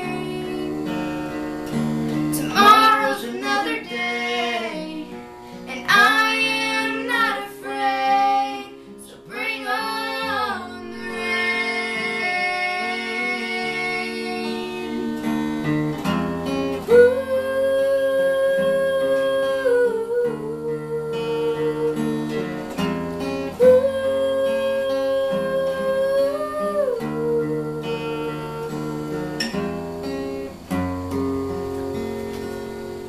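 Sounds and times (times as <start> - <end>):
girl singing: 0.0 - 15.7, 16.4 - 29.5
acoustic guitar strumming: 0.0 - 33.0.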